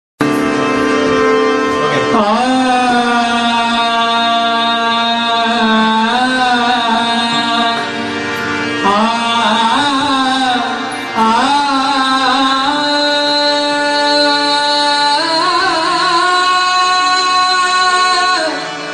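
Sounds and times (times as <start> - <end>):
held instrumental notes: 0.2 - 18.9
person singing ornamented glides: 0.5 - 18.9.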